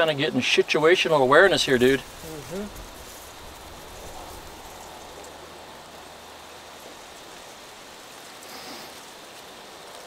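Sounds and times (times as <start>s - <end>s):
steady outdoor background hiss: 0.0s - 10.0s.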